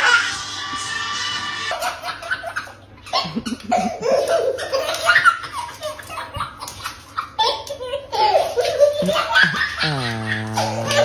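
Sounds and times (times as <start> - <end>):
young child laughing: 1.8 - 11.0.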